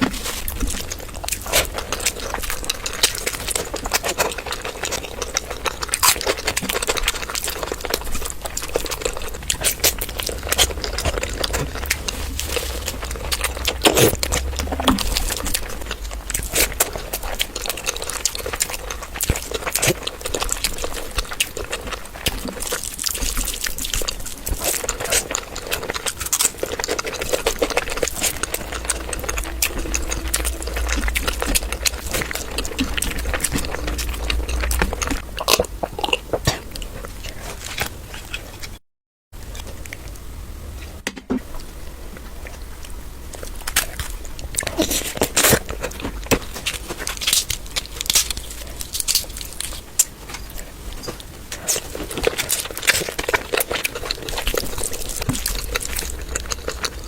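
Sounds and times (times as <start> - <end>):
wet chewing and smacking: 0.0 - 38.8, 41.5 - 57.0.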